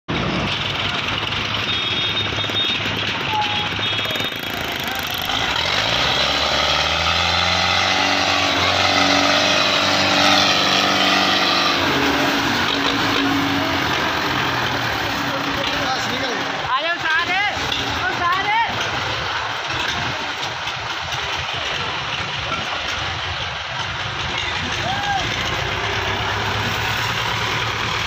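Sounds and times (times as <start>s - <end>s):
diesel tractor engine under load: 0.1s - 28.0s.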